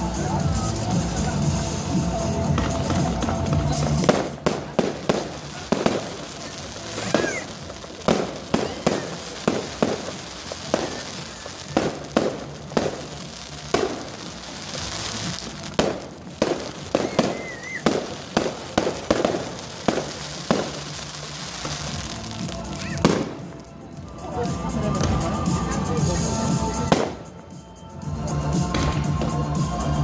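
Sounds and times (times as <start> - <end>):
fireworks bangs and pops: 0.0 - 27.4, 28.5 - 30.0
fireworks crackling: 0.0 - 30.0.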